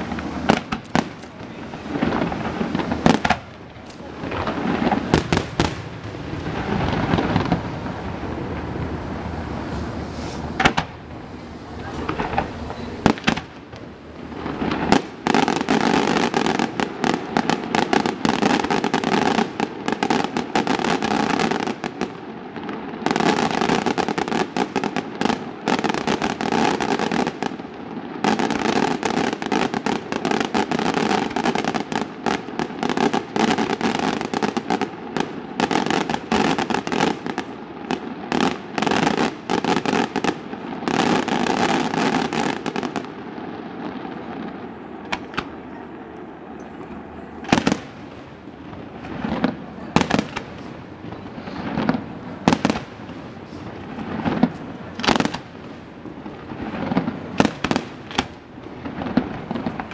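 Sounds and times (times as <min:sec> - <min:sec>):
crackling bangs: 0:00.0 - 0:59.9.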